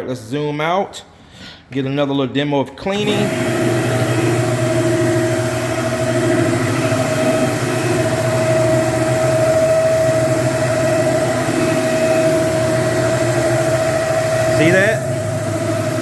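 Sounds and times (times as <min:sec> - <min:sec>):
floor-cleaning machine motor humming: 0:02.9 - 0:16.0.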